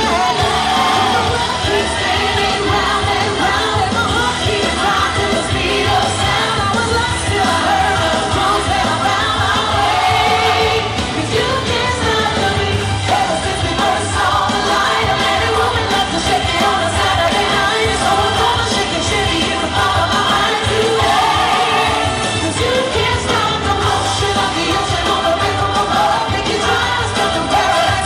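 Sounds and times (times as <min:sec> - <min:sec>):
pop song over loudspeakers: 0:00.0 - 0:28.0.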